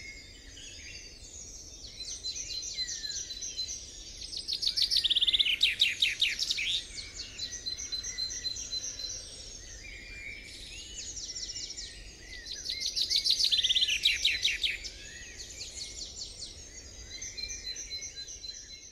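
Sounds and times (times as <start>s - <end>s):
songbirds singing trilled phrases: 0.0s - 18.9s.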